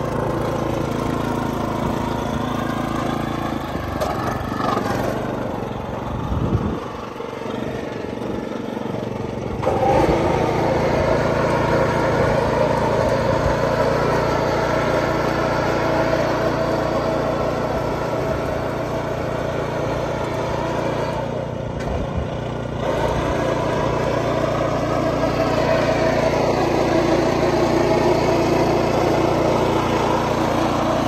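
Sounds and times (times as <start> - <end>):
small engine running: 0.0 - 31.0.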